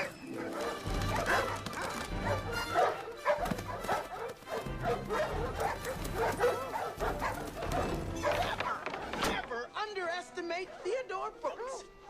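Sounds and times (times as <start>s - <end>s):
dogs barking and yipping: 0.0s - 9.3s, 10.5s - 12.0s
background music: 0.0s - 12.0s.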